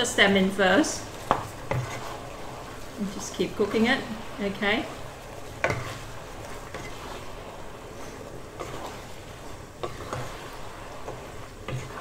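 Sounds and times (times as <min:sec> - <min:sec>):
noodles sizzling in a pan: 0:00.0 - 0:12.0
spatula scraping a pan: 0:00.3 - 0:12.0.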